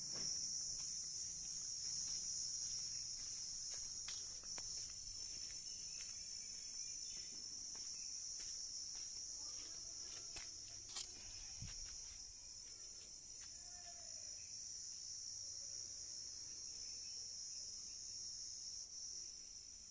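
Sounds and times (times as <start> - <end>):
crickets trilling: 0.0 - 19.9.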